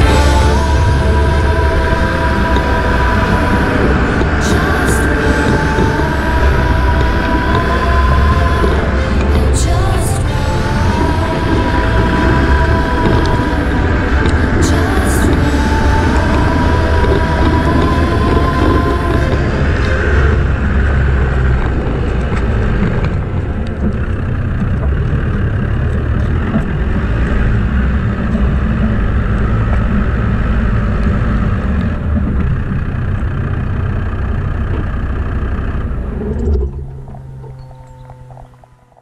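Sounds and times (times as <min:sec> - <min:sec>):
low rumble of engine and tyres: 0:00.0 - 0:39.0.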